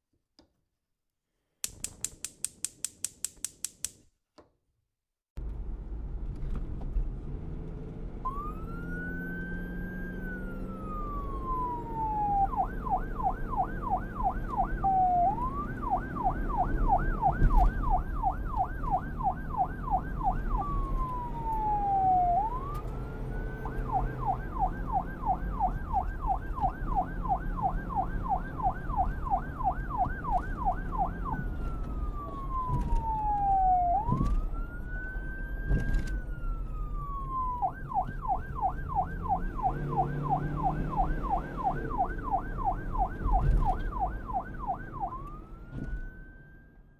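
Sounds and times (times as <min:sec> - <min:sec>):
police siren wail and yelp: 0:08.2 - 0:46.9.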